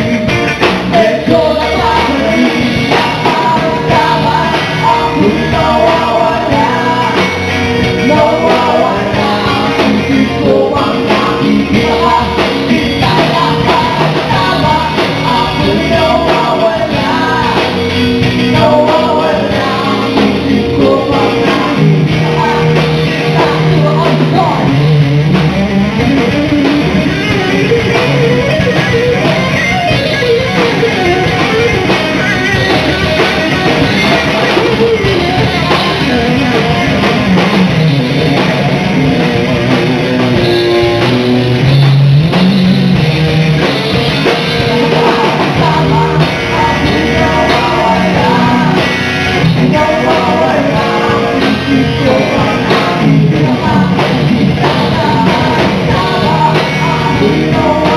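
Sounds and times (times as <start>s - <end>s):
drum kit: 0.0s - 57.9s
electric guitar: 0.0s - 57.9s
live rock band playing: 0.0s - 57.9s.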